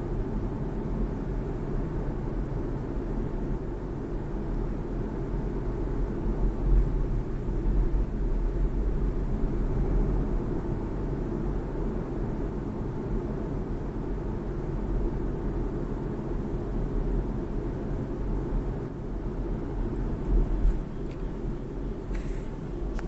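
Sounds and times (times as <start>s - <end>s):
road and tyre noise: 0.0s - 23.0s.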